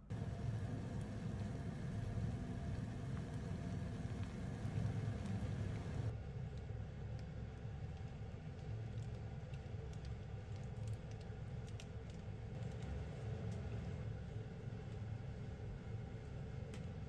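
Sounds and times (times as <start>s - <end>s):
pot simmering low rumble: 0.0s - 17.0s.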